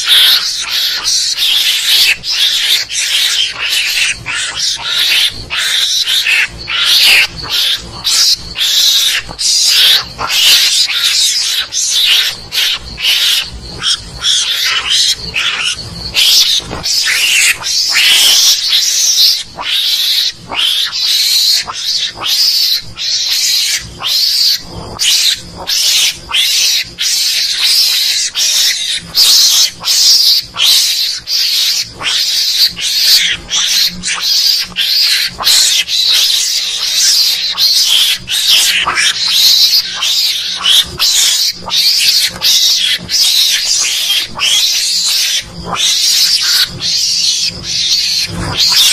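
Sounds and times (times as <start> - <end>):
mongoose chattering calls: 0.0 - 48.9.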